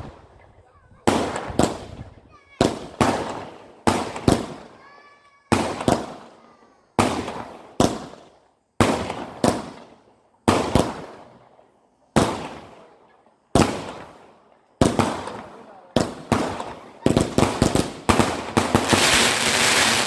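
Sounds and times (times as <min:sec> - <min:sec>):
firework bangs: 0:01.0 - 0:11.4, 0:12.1 - 0:20.0.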